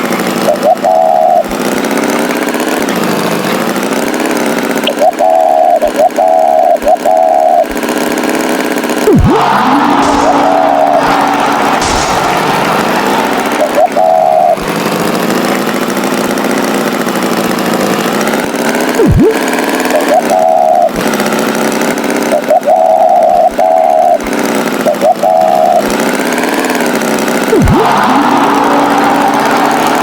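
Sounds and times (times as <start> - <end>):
short steady tones: 0.0 - 3.1, 3.7 - 30.0
tractor engine running: 0.0 - 30.0.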